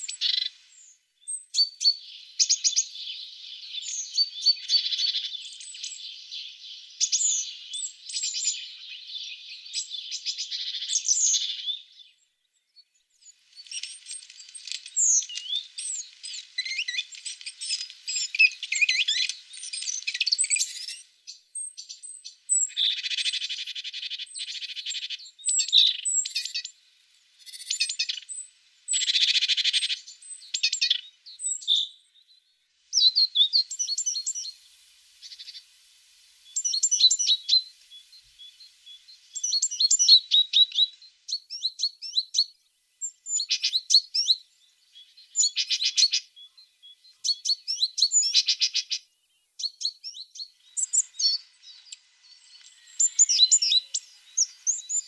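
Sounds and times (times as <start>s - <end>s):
tits calling and singing: 0.0s - 55.0s.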